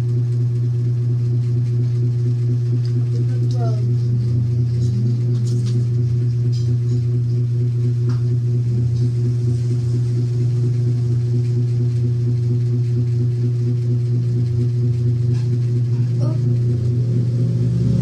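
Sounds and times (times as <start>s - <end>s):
loud low hum: 0.0s - 18.0s.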